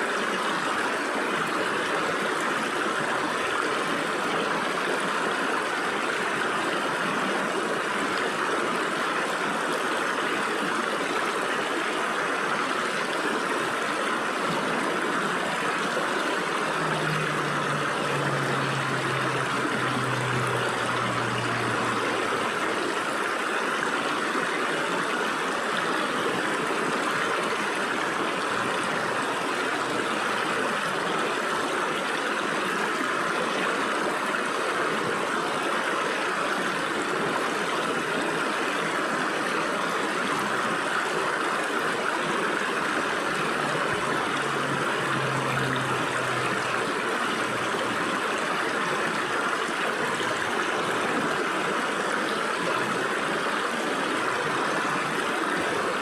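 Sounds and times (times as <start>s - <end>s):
stream water rushing over rocks: 0.0s - 56.0s.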